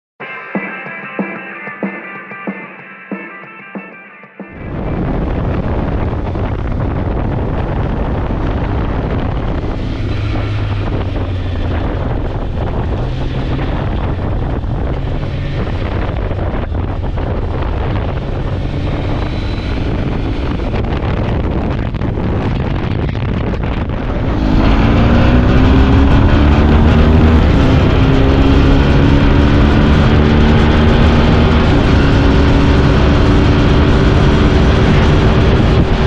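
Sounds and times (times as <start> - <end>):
moving vehicle drone: 4.5 - 36.0
wind buffeting microphone: 4.6 - 36.0.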